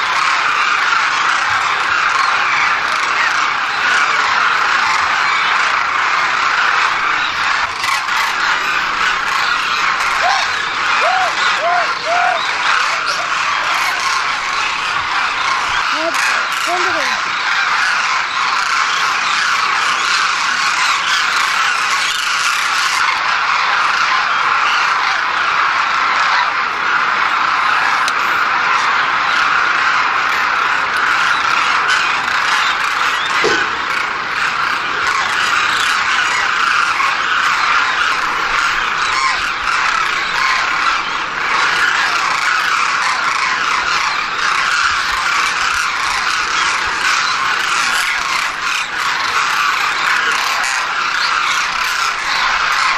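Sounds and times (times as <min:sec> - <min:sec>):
flock of birds chirping: 0:00.0 - 0:52.9.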